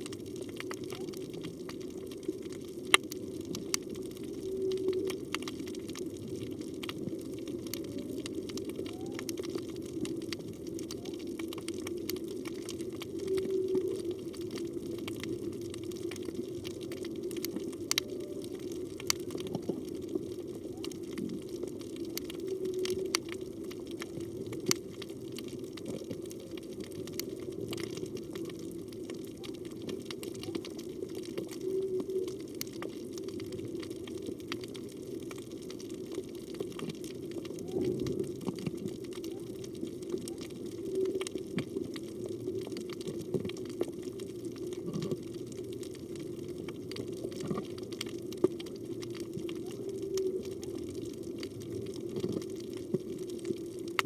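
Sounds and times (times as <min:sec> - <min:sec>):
crackle of sharp clicks: 0:00.0 - 0:54.0
low underwater hum: 0:00.0 - 0:54.0.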